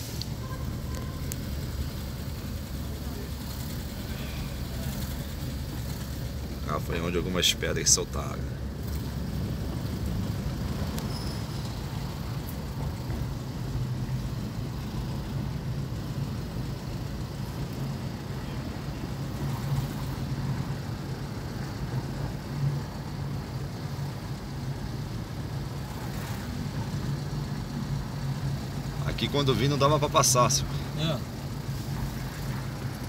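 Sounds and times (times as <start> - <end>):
car engine hum inside cabin: 0.0 - 33.0
road and tyre noise: 0.0 - 33.0.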